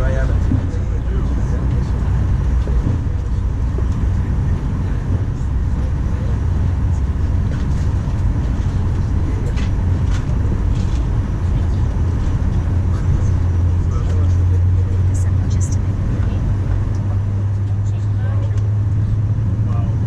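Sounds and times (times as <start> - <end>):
airplane cabin low rumble: 0.0 - 20.0.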